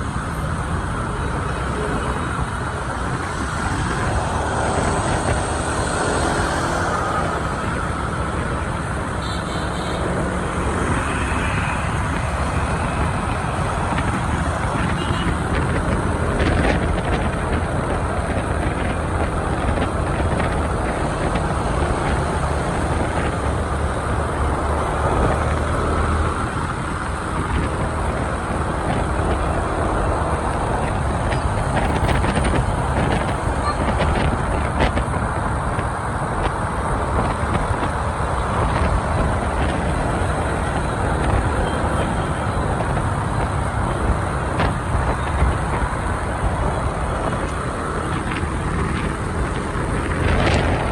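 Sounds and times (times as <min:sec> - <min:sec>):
motorbike road noise: 0:00.0 - 0:50.9.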